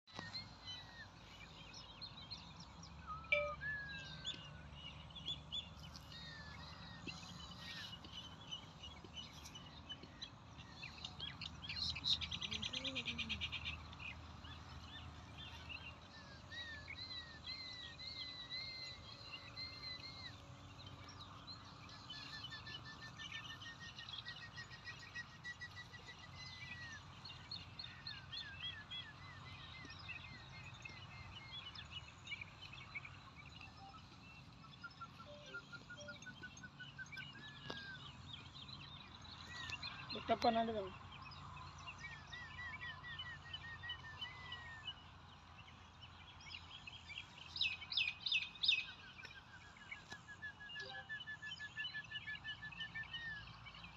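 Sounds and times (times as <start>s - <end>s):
outdoor background noise: 0.0s - 53.9s
birds chirping and whistling: 0.1s - 53.9s.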